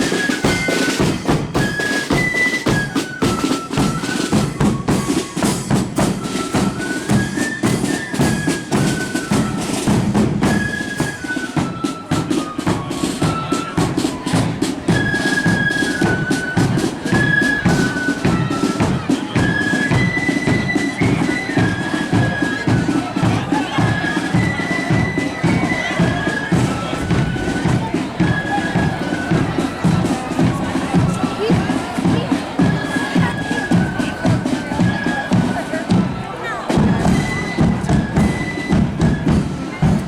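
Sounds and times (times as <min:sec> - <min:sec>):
flutes playing a melody: 0:00.0 - 0:40.0
side drum strokes: 0:00.0 - 0:40.0.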